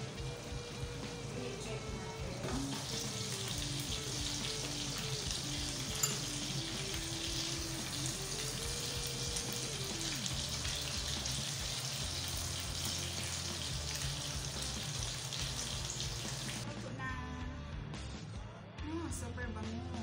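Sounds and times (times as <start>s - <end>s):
chicken sizzling in oil: 0.0s - 16.6s.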